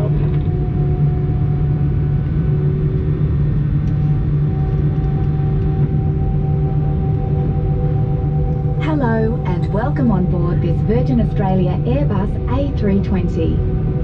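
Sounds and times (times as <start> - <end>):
airplane cabin rumble and hum: 0.0 - 14.0
faint whining tones: 0.0 - 14.0.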